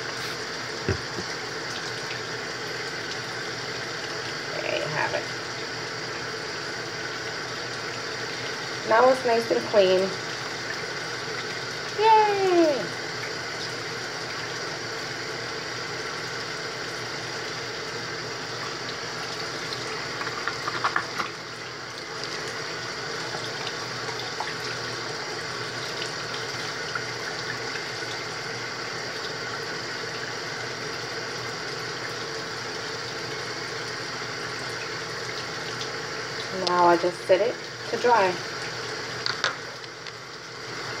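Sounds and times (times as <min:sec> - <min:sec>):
faucet running into sink: 0:00.0 - 0:41.0.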